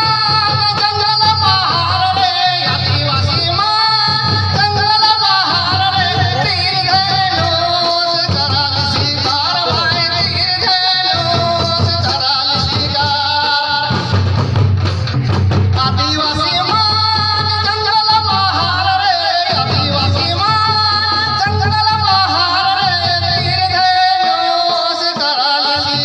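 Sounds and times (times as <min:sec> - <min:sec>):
person singing: 0:00.0 - 0:14.2, 0:15.7 - 0:26.0
drums: 0:00.0 - 0:26.0.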